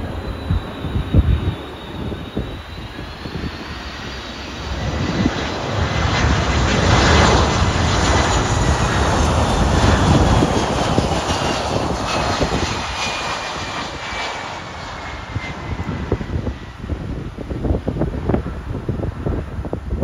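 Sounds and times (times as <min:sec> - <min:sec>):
high engine whine: 0:00.0 - 0:20.0
jet engines rushing: 0:00.0 - 0:20.0.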